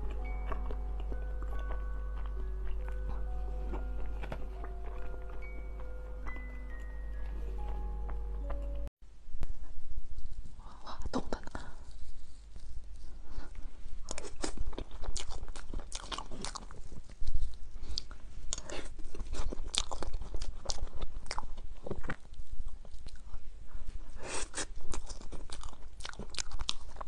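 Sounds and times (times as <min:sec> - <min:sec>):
crunchy chewing: 0:00.0 - 0:08.8, 0:12.6 - 0:27.0.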